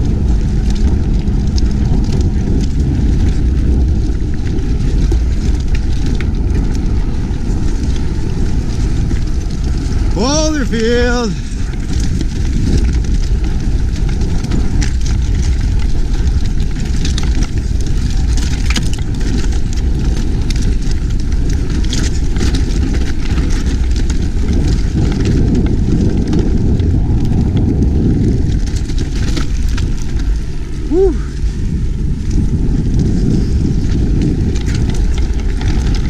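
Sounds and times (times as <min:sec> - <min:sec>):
stones and bike rattling: 0:00.0 - 0:36.0
tyre rumble: 0:00.0 - 0:36.0
wind buffeting: 0:00.0 - 0:36.0.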